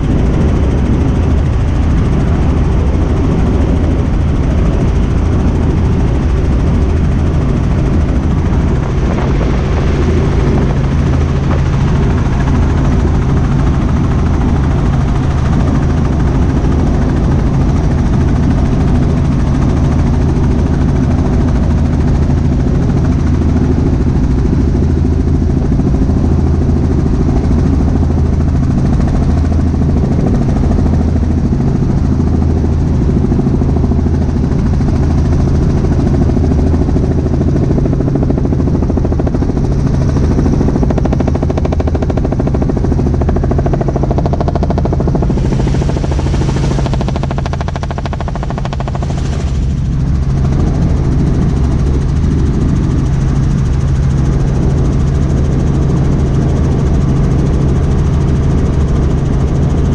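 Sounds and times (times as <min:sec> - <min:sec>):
helicopter engine and rotors drone: 0:00.0 - 0:59.9.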